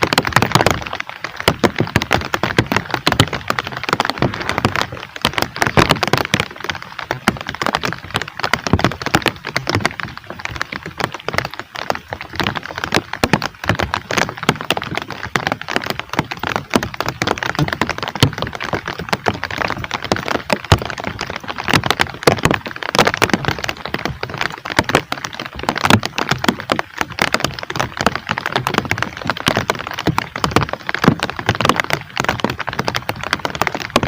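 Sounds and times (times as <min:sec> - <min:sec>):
heavy rain on hard surface: 0:00.0 - 0:34.0.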